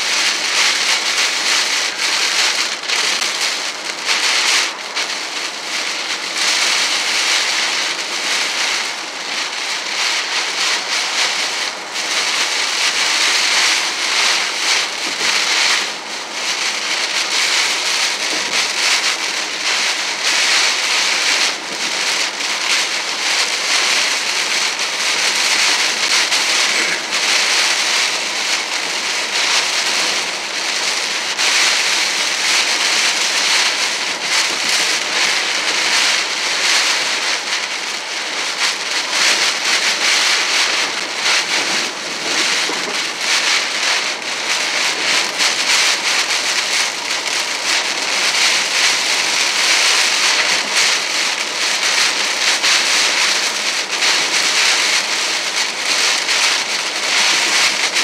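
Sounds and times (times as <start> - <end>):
heavy rain on car roof: 0.0 - 58.0
tyres hissing on wet road: 0.0 - 58.0.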